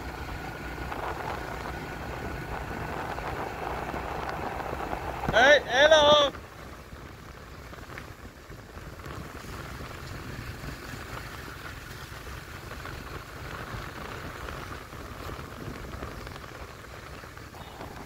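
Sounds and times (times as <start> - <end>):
scooter engine: 0.0 - 18.0
tyres hissing on wet asphalt: 0.0 - 18.0
wind rumble on microphone: 0.0 - 18.0.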